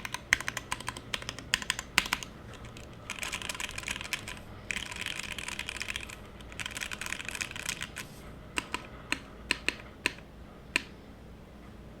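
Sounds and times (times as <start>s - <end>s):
mechanical keyboard typing: 0.0s - 10.2s.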